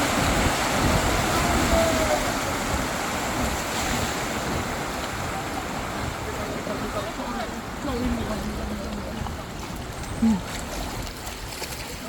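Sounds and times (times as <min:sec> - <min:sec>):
water rushing: 0:00.0 - 0:12.0
wind buffeting microphone: 0:00.0 - 0:12.0.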